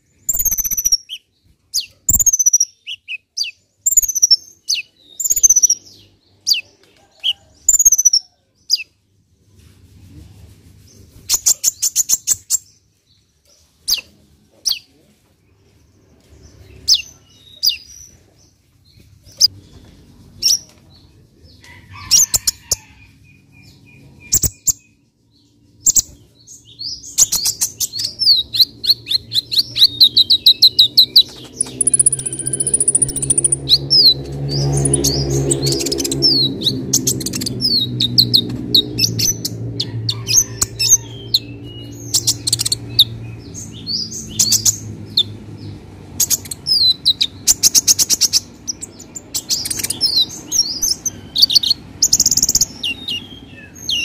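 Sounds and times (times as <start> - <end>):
bird chirping and trilling: 0.0 - 8.9, 11.3 - 12.8, 16.4 - 18.2, 22.0 - 54.0.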